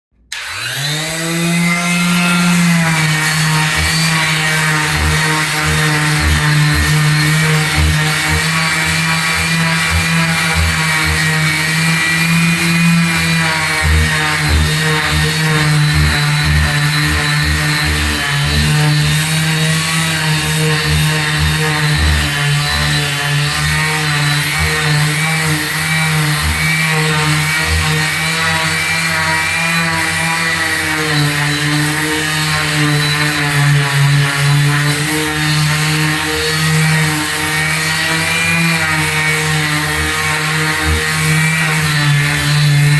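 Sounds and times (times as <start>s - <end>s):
electric sander motor hum: 0.3s - 42.9s.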